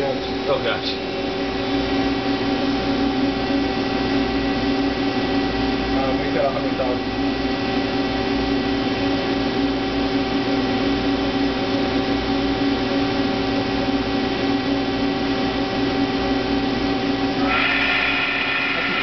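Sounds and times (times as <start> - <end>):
high machine whine rising: 0.0 - 19.0.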